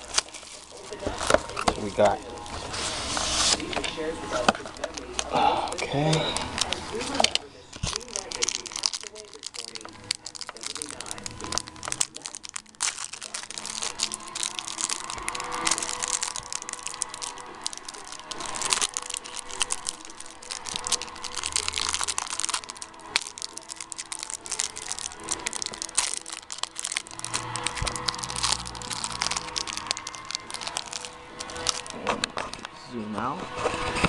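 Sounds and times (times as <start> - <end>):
plastic wrapper crinkling: 0.0 - 34.0.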